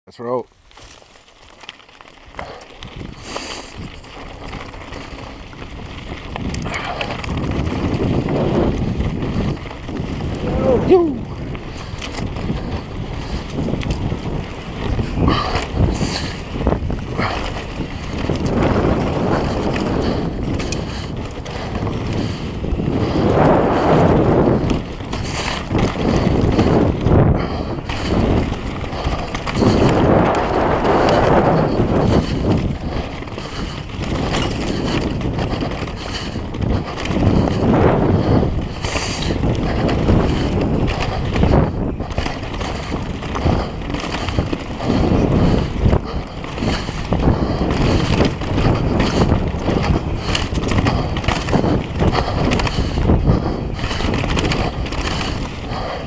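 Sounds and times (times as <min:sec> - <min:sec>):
bike knocking and rattling: 0:00.6 - 0:56.0
tyres rumbling over rocks: 0:00.6 - 0:56.0
wind rushing over microphone: 0:02.3 - 0:56.0.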